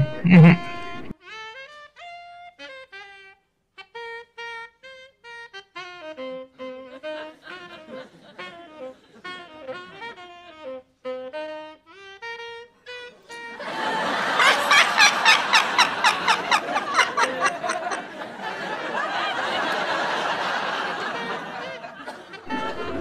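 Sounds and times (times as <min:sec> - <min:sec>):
solo saxophone melody: 0:00.0 - 0:23.0.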